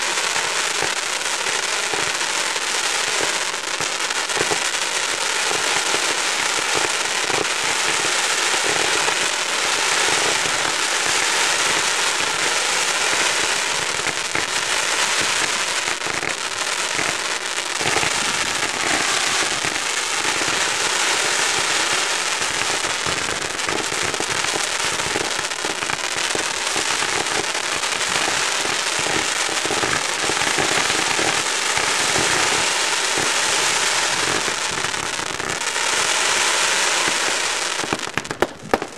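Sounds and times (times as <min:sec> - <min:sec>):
fireworks crackling and popping: 0:00.0 - 0:38.9.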